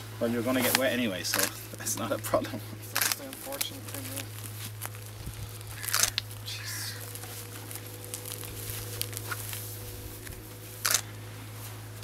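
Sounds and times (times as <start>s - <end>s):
clothes and bags rustling: 0.0s - 12.0s
steady low hum: 0.0s - 12.0s.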